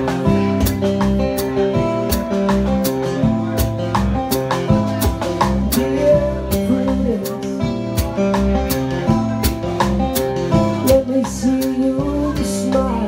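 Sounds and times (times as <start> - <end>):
drum kit playing: 0.0 - 13.0.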